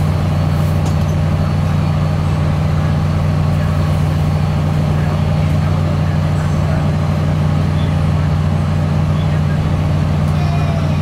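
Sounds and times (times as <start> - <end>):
air-conditioning drone: 0.0 - 11.0
train running noise: 0.0 - 11.0.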